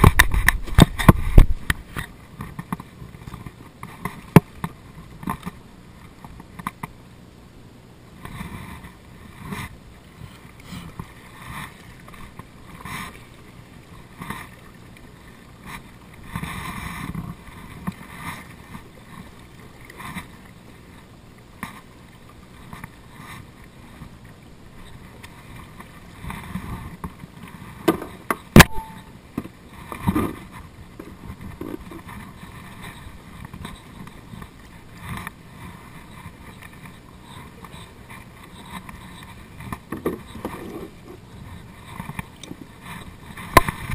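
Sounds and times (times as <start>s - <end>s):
water lapping against kayak hull: 0.0s - 43.9s.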